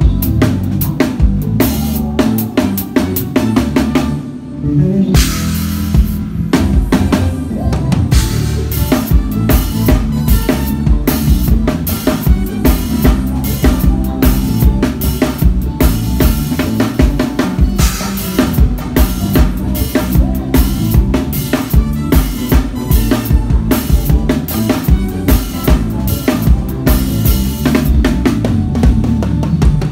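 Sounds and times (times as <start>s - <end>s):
bass notes: 0.0s - 29.9s
drum kit playing: 0.0s - 29.9s.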